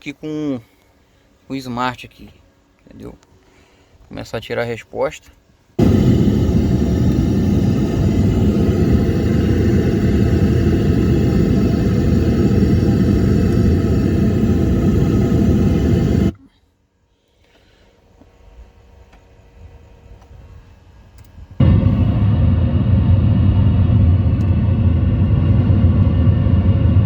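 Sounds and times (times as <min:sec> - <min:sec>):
hiss-like test noise through subwoofers: 0:04.1 - 0:16.4, 0:17.4 - 0:27.0.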